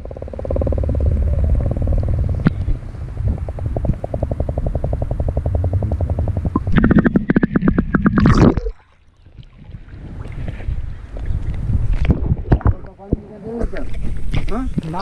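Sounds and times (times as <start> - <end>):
churning water pulsing underwater: 0.0 - 12.9
faint outdoor sound: 0.0 - 15.0.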